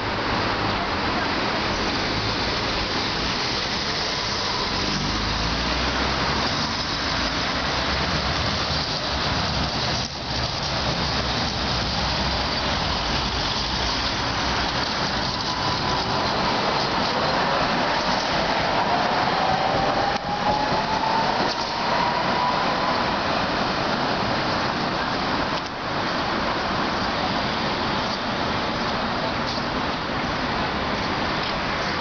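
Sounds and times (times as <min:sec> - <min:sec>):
street noise: 0:00.0 - 0:32.0
tram passing: 0:00.0 - 0:32.0.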